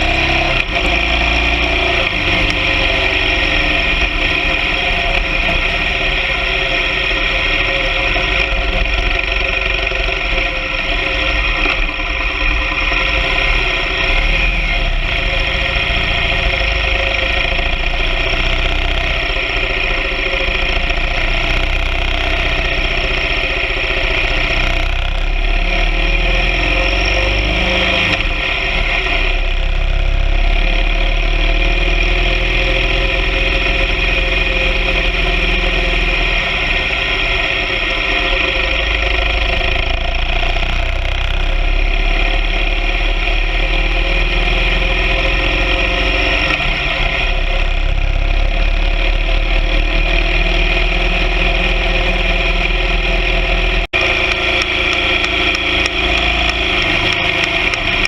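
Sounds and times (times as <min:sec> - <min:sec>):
low rumble: 0:00.0 - 0:58.0
motorcycle engine running: 0:00.0 - 0:58.0.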